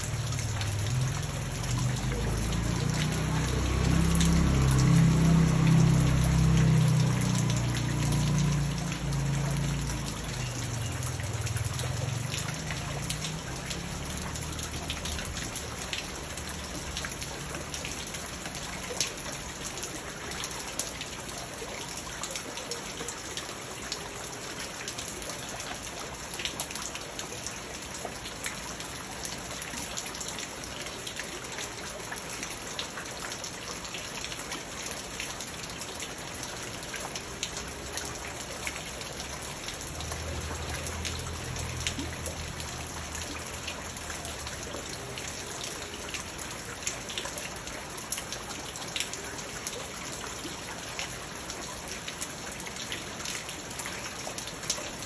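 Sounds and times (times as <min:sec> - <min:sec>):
rain pattering on pond and stones: 0:00.0 - 0:55.0.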